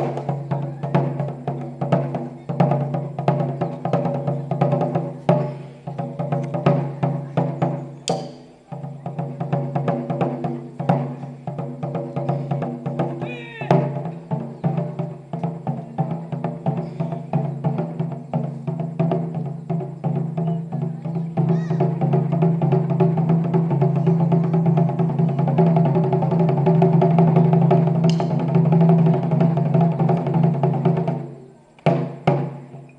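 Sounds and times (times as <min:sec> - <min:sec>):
taiko drums beaten: 0:00.0 - 0:32.9.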